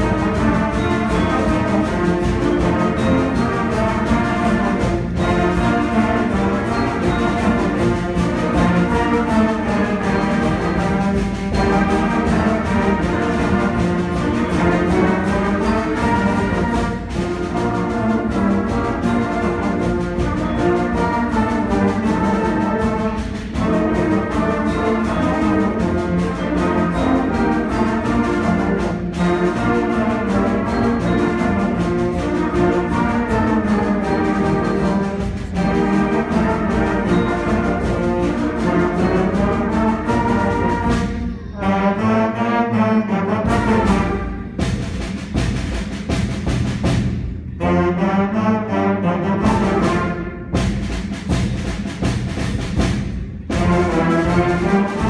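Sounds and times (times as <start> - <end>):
concert band playing: 0.0 - 55.0.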